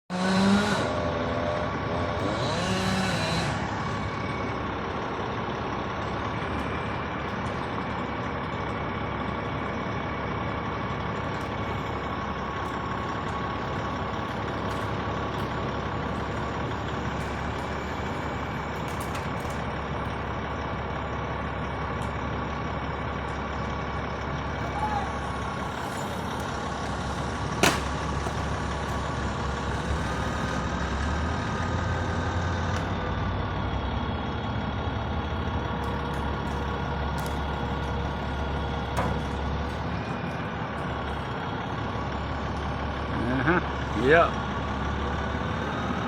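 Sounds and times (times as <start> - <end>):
crane engine running: 0.1 - 46.0.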